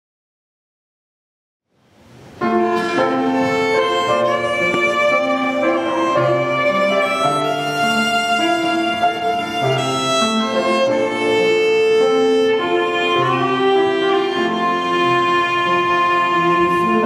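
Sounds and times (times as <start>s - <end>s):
violin playing slow melody: 2.4s - 17.0s.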